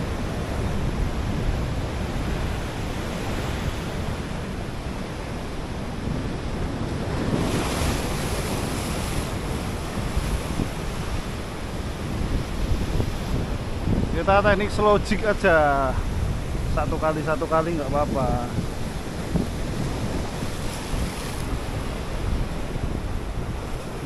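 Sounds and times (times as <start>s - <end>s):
ocean waves breaking: 0.0s - 24.0s
wind buffeting microphone: 0.0s - 24.0s.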